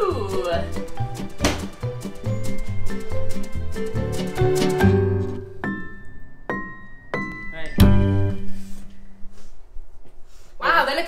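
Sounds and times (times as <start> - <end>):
background music tune: 0.0 - 8.9.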